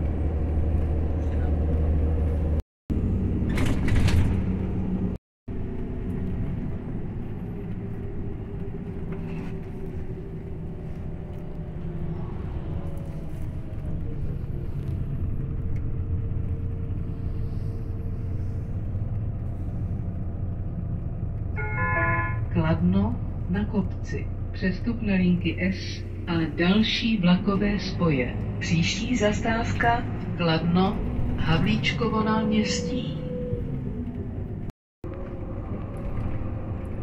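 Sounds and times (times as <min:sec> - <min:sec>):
bus diesel engine running: 0:00.0 - 0:37.0
road rumble: 0:00.0 - 0:37.0.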